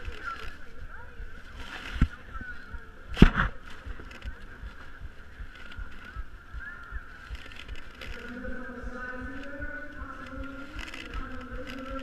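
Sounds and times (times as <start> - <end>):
muffled crowd hubbub: 0.0 - 12.0.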